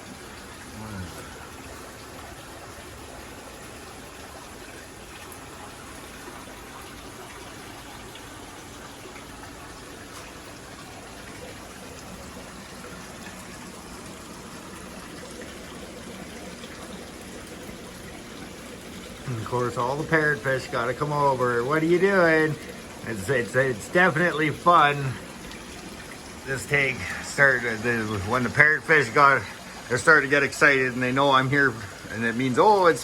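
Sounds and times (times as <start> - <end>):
aquarium water trickling: 0.0 - 33.0.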